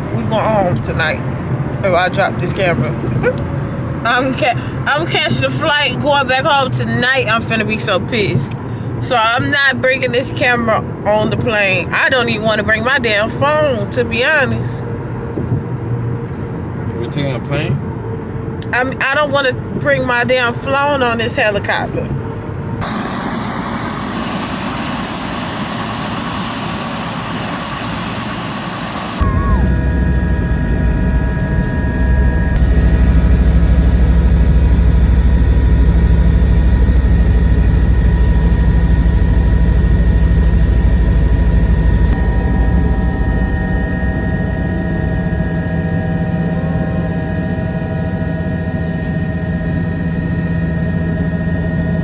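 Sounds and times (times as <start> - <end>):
helicopter rotor drone: 0.0 - 52.0
turbine whine: 0.0 - 52.0.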